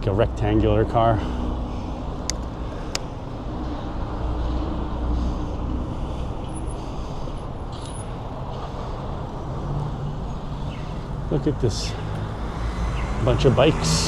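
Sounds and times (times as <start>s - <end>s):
road noise rush: 0.0s - 14.0s
vehicle engines humming: 0.0s - 14.0s.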